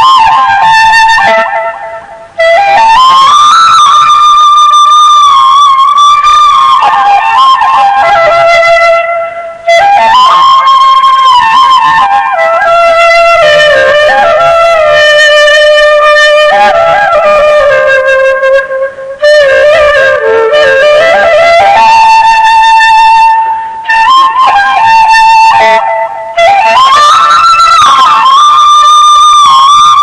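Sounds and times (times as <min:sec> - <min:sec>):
wind instrument melody: 0:00.0 - 0:30.0.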